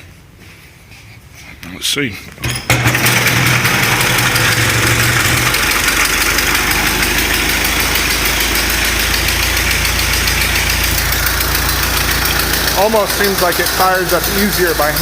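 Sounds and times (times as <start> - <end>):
old car engine idling: 2.7 - 15.0.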